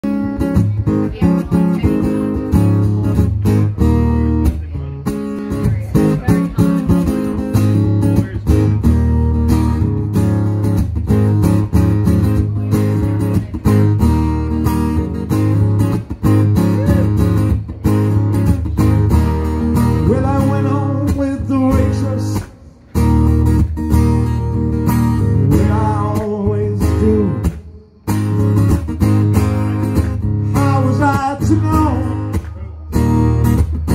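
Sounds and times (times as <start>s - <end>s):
amplified acoustic guitar: 0.0s - 33.9s
deep bass: 5.6s - 33.9s.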